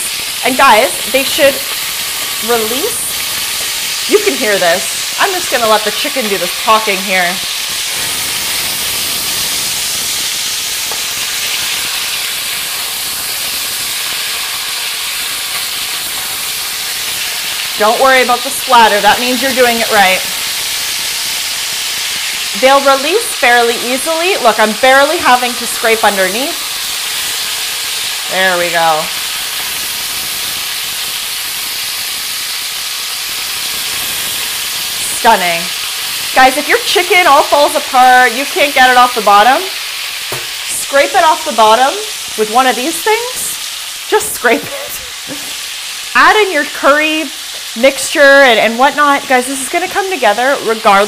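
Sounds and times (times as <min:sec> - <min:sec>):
chicken sizzling in a pan: 0:00.0 - 0:51.0.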